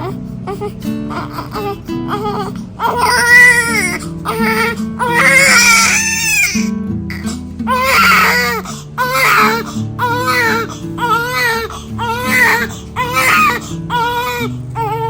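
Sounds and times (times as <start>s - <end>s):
newborn baby crying: 0.0s - 15.0s.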